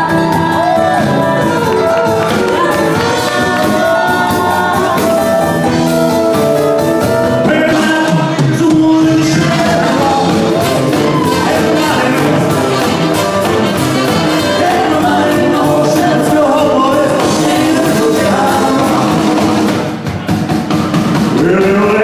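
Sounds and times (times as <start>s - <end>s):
person singing: 0.0s - 20.0s, 21.2s - 22.0s
live rock and roll band: 0.0s - 22.0s.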